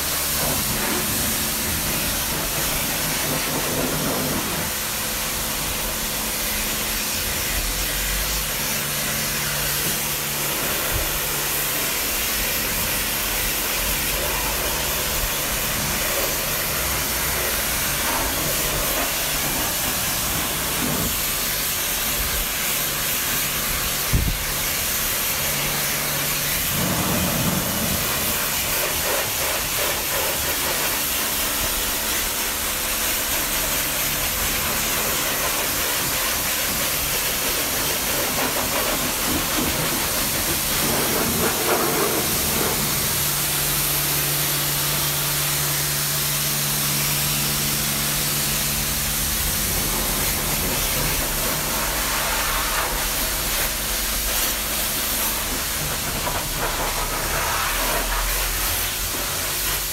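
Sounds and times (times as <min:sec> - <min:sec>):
pressure washer spraying water: 0:00.0 - 0:59.9.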